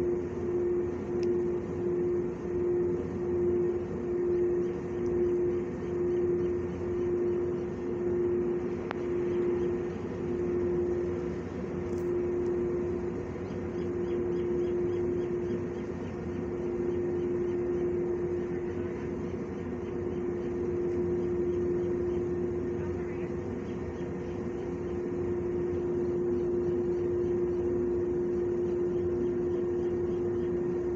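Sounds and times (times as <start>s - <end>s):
mechanical hum: 0.0s - 30.9s.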